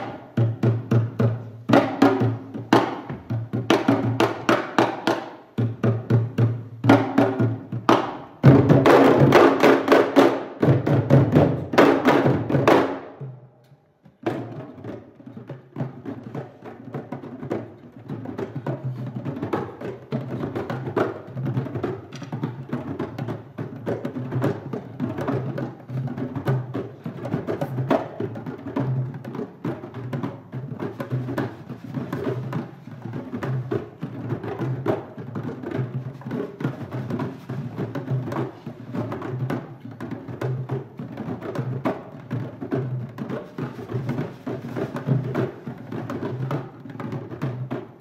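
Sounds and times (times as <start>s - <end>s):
hand drums playing rhythm: 0.0s - 48.0s.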